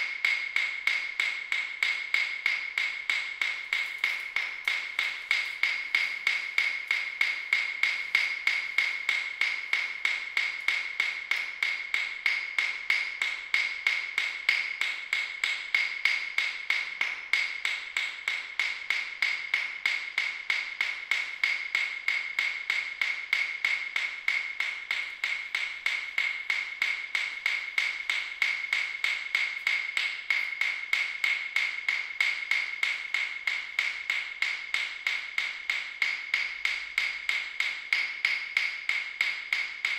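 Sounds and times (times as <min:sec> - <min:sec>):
ringing ticks: 0:00.0 - 0:39.9.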